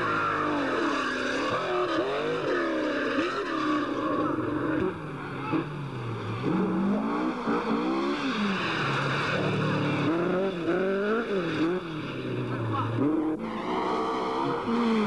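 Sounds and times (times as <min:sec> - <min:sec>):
rally car engines revving: 0:00.0 - 0:15.0.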